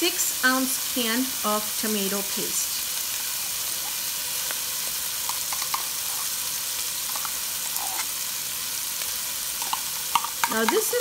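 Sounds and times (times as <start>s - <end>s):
oil sizzling in a pot: 0.0s - 11.0s.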